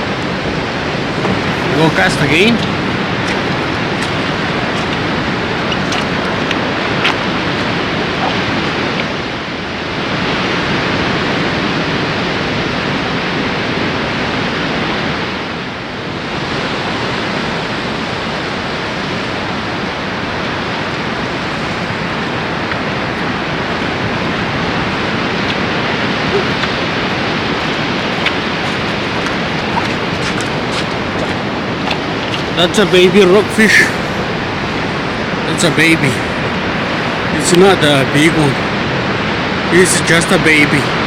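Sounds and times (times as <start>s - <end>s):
ocean surf washing: 0.0s - 41.0s.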